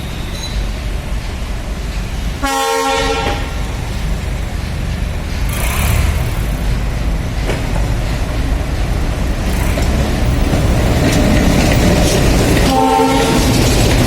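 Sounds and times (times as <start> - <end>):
diesel locomotive engines chugging: 0.0 - 14.0.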